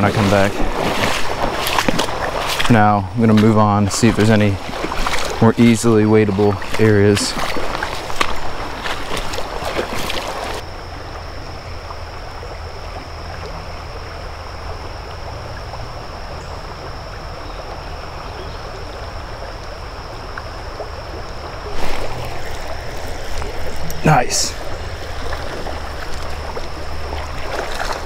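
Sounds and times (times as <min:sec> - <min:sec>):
legs wading through water: 0:00.0 - 0:10.7, 0:11.7 - 0:28.0
creek water running: 0:00.0 - 0:28.0.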